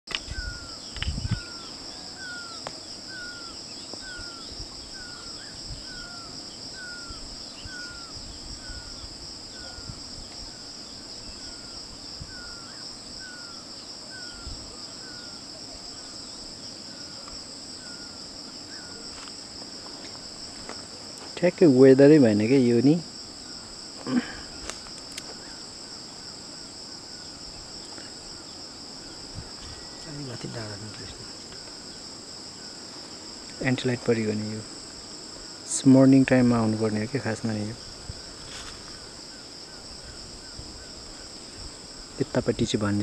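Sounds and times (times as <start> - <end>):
insect chorus drone: 0.1 - 43.0.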